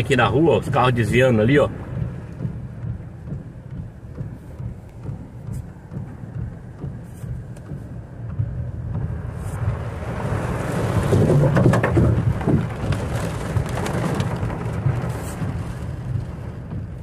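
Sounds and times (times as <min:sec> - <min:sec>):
gusting wind: 0:00.0 - 0:17.0
heavy rain on a car: 0:00.0 - 0:17.0
steady low rumble: 0:00.0 - 0:17.0.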